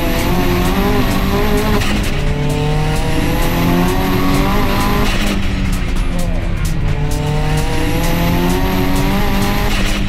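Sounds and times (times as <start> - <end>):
high turbo whine: 0.0 - 10.0
turbocharged car engine accelerating: 0.0 - 10.0.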